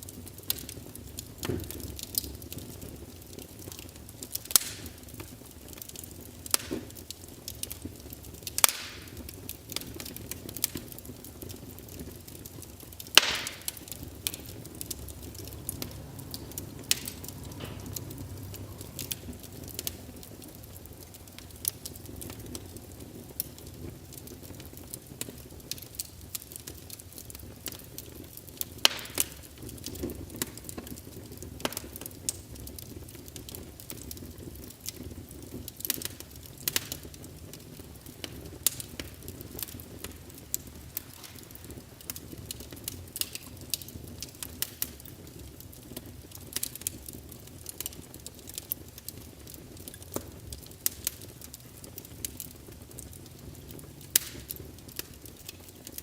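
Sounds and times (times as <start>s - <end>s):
fire popping and snapping: 0.0s - 56.0s
hiss and rumble of flames: 0.0s - 56.0s
wood fire crackling: 0.0s - 56.0s.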